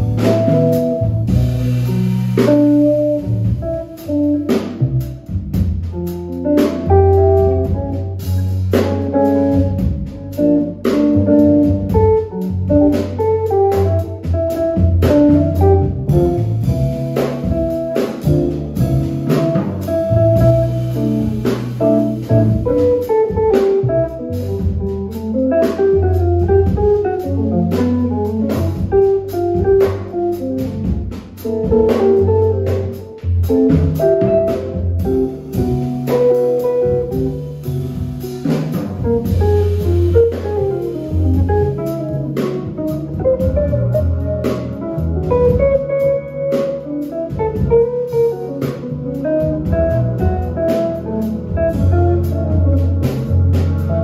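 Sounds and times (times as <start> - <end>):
drum kit: 0.0 - 54.0
electric bass notes: 0.0 - 54.0
plucked guitar melody: 6.0 - 54.0.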